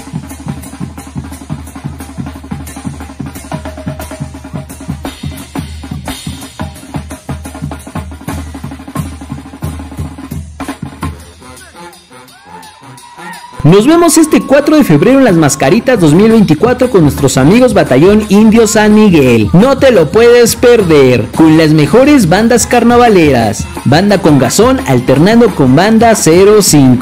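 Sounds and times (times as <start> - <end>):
drum-led music with fast beat: 0.0 - 27.0.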